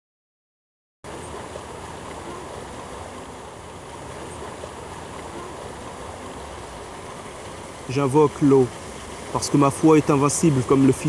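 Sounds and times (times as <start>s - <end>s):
fountain water splashing: 1.1s - 11.0s.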